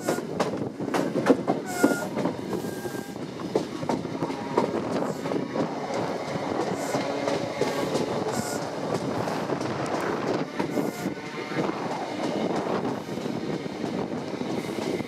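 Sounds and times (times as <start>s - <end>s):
train wheels clattering over switches: 0.0s - 15.0s.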